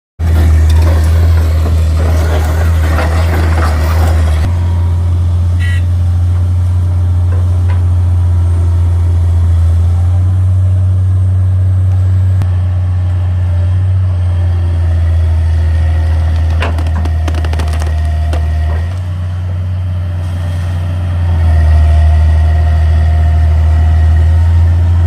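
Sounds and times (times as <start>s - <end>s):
diesel engine droning: 0.2s - 25.0s.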